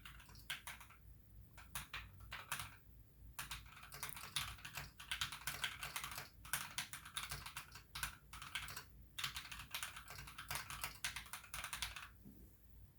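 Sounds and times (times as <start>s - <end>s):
mechanical keyboard typing: 0.0s - 1.0s, 1.6s - 2.8s, 3.4s - 12.2s.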